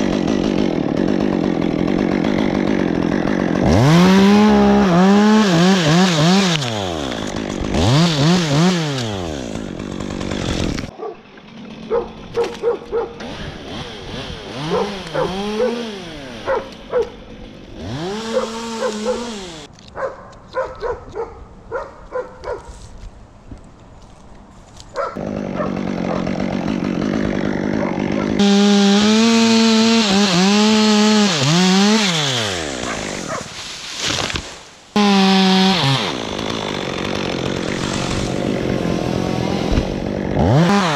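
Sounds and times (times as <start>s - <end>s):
chainsaw cutting wood: 0.0s - 19.7s, 25.2s - 40.9s
chainsaw revving: 0.0s - 19.7s, 25.2s - 34.4s, 35.0s - 40.9s.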